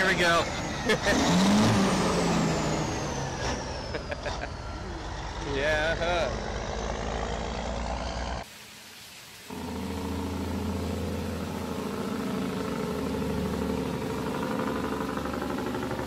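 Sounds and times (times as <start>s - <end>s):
truck diesel engine droning: 0.0s - 8.4s, 9.5s - 16.0s.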